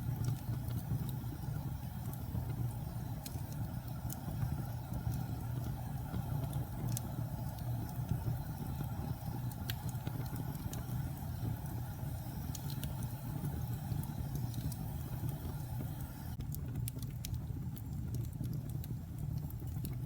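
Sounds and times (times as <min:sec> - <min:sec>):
fire crackles and pops: 0:00.0 - 0:20.0
fire rumbling in fireplace: 0:00.0 - 0:20.0.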